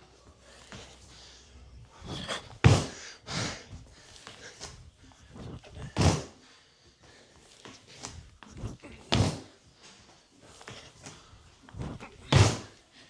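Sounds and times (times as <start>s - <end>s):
man breathing hard: 0.3s - 13.0s.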